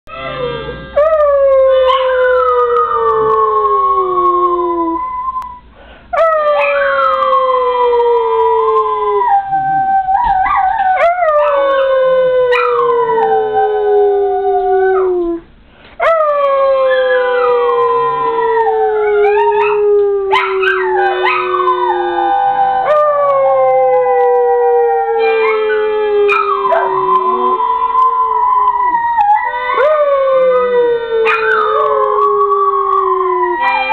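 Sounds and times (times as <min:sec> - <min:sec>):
small dogs howling: 0:00.1 - 0:05.6, 0:06.2 - 0:15.4, 0:16.0 - 0:33.9.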